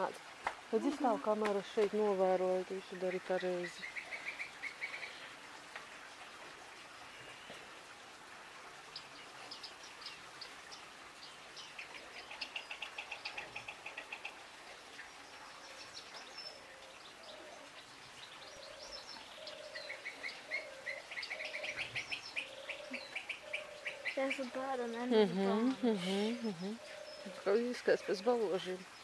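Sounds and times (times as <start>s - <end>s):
small birds trilling: 0.8s - 5.4s, 8.8s - 29.0s.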